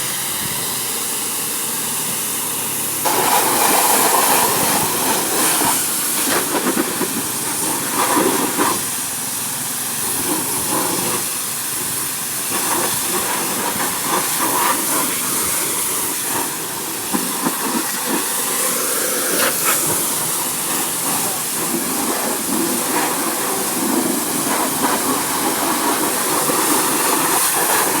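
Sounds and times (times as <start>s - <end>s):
hissing spray: 0.0s - 28.0s.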